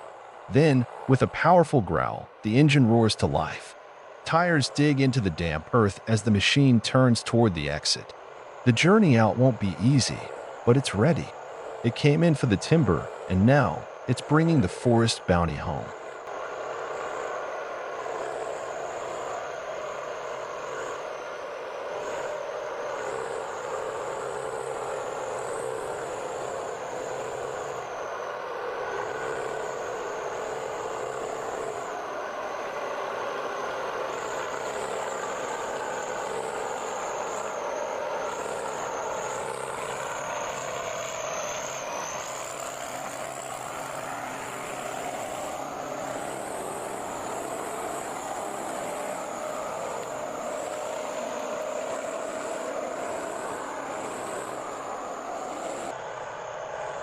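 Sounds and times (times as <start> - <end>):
thin high whine: 0.0 - 57.0.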